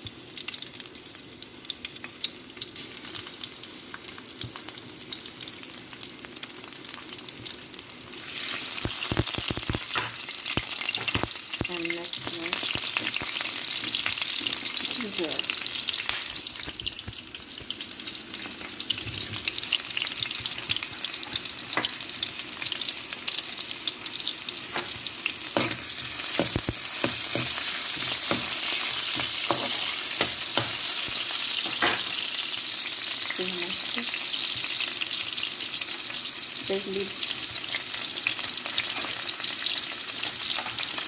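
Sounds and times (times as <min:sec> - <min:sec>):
garlic sizzling in hot oil: 0:00.0 - 0:41.0.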